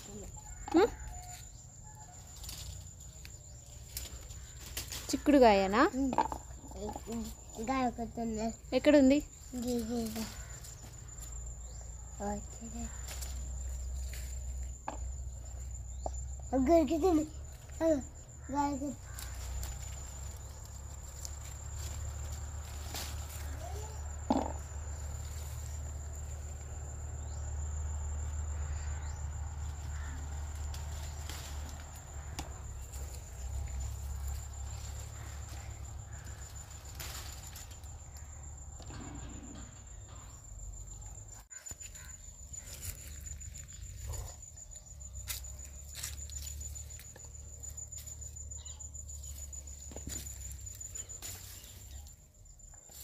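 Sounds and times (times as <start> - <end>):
high-pitched insect trill: 0.0 - 53.0.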